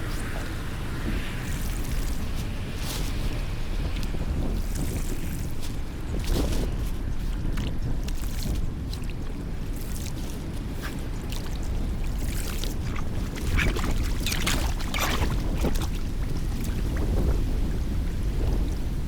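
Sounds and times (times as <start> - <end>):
water sloshing and splashing: 0.0 - 18.8
wind rumble on microphone: 0.0 - 19.0.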